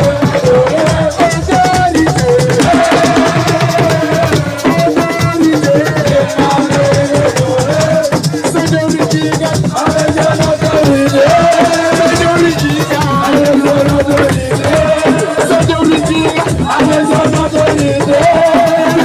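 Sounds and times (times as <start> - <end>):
drums beating: 0.0 - 19.0.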